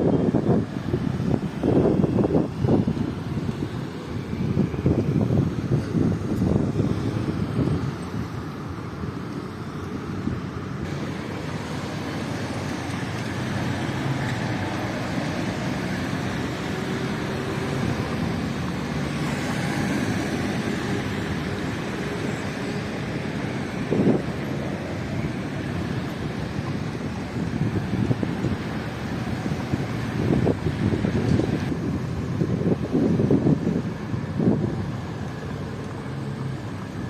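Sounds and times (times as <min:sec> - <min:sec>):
wind: 0:00.0 - 0:37.0.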